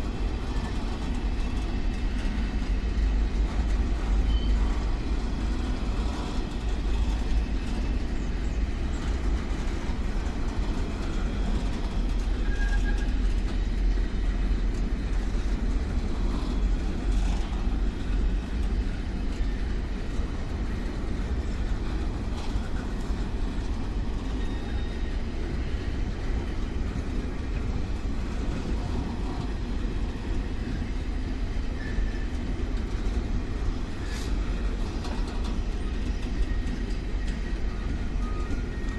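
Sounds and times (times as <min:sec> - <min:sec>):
train low rumble: 0:00.0 - 0:38.9.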